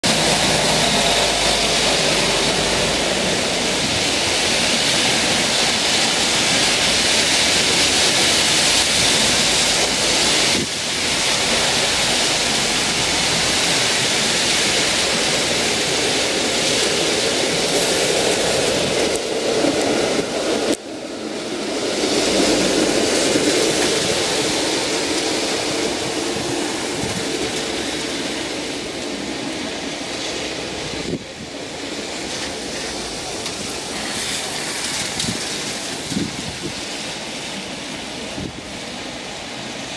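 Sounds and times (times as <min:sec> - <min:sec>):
vehicles passing: 0:00.0 - 0:36.8
car tyres hissing on wet slush: 0:00.0 - 0:39.9.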